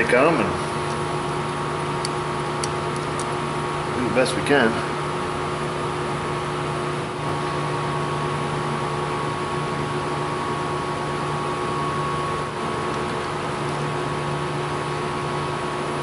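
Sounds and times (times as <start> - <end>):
machine humming with whine: 0.0 - 16.0.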